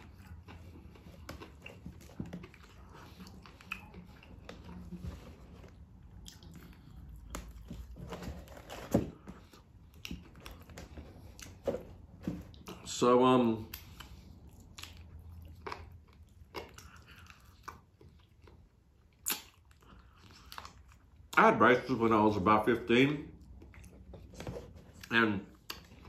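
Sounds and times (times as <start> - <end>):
chewing and lip-smacking: 0.0 - 8.0, 9.3 - 11.6, 13.6 - 21.4, 23.3 - 26.0.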